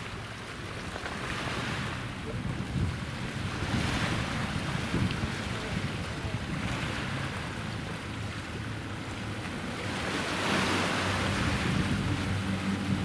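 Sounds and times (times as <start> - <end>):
low engine hum: 0.0 - 13.0
waves washing: 0.0 - 13.0
wind on microphone: 1.4 - 13.0.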